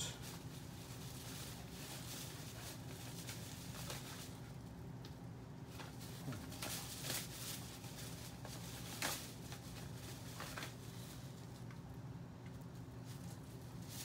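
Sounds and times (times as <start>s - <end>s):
rustles and clicks of handling: 0.0s - 14.0s.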